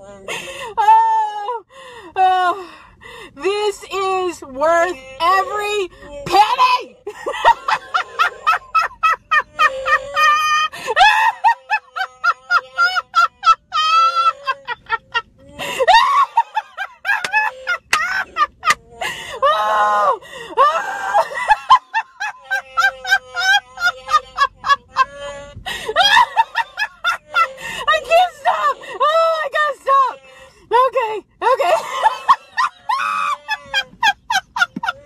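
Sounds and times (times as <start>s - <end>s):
woman laughing: 0.3s - 1.6s, 4.6s - 35.0s.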